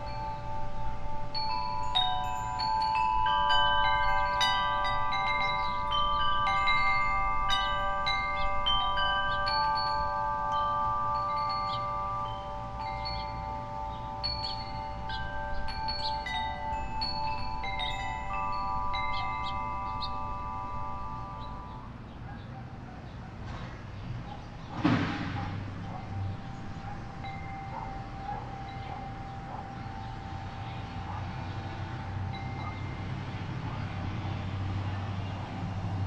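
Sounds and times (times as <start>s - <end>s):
wind chime ringing: 0.0s - 22.2s, 25.8s - 36.0s.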